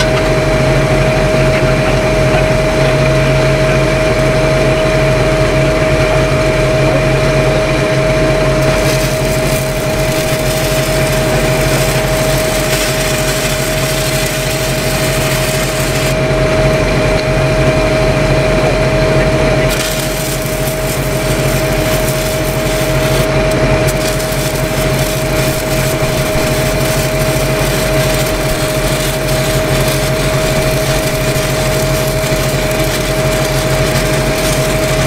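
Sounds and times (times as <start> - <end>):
welding arc hiss and crackle: 0.0 - 17.8, 19.6 - 35.0
welding machine engine whine: 0.0 - 35.0.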